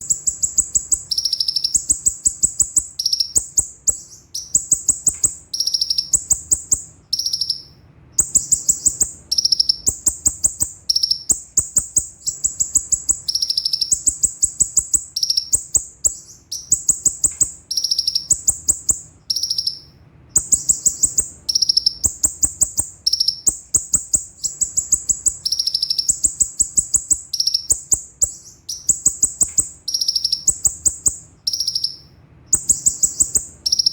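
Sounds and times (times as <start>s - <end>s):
sunbird singing rapid trills: 0.0s - 33.9s.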